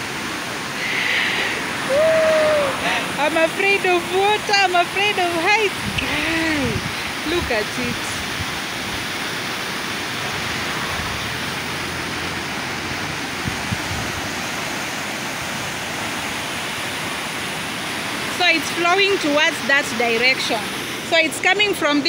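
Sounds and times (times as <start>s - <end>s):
river rushing through rapids: 0.0s - 22.0s.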